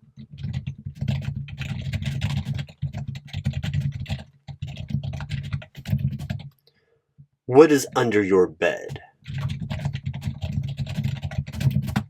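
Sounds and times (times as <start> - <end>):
fast typing on keyboard: 0.0 - 6.6, 8.9 - 12.0.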